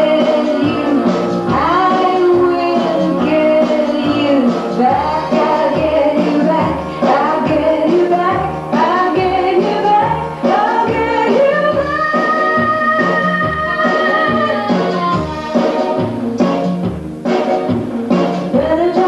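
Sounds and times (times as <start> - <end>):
woman singing: 0.0 - 15.6, 18.5 - 19.0.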